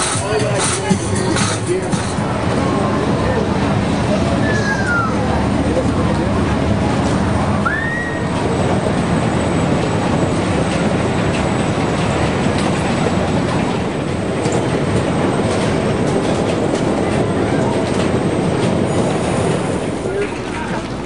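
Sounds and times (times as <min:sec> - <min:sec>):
carnival rumbling noise: 0:00.0 - 0:21.0.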